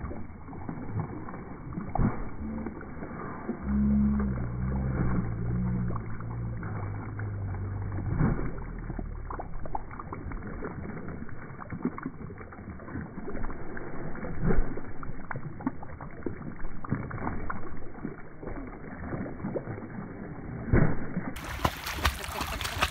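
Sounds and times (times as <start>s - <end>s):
water splashing: 0.0s - 22.9s.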